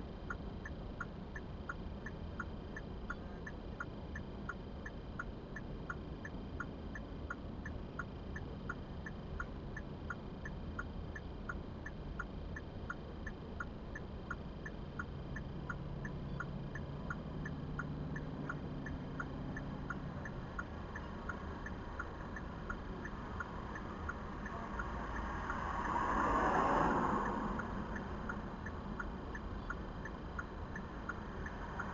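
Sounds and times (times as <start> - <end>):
vehicle cabin hum: 0.0 - 31.9
turn signal clicking: 0.2 - 31.9.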